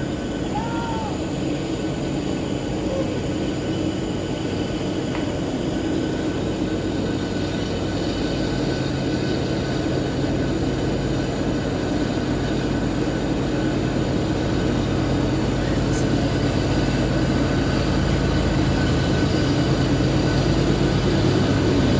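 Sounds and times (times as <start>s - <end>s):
diesel locomotive drone: 0.0s - 21.9s
low engine tone: 0.0s - 21.9s
train rumbling on rails: 0.0s - 21.9s.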